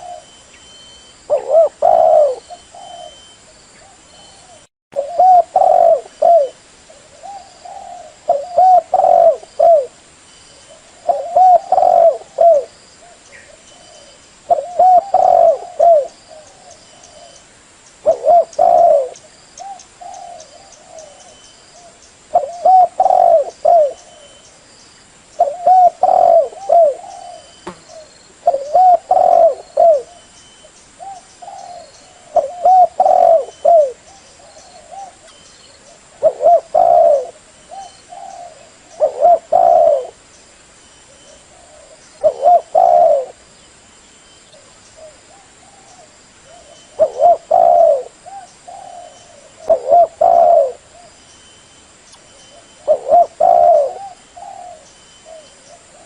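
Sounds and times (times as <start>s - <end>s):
dove cooing: 0.0s - 10.0s, 10.7s - 17.4s, 18.0s - 24.4s, 25.4s - 30.3s, 31.0s - 40.2s, 41.1s - 43.4s, 44.5s - 51.2s, 52.3s - 56.0s.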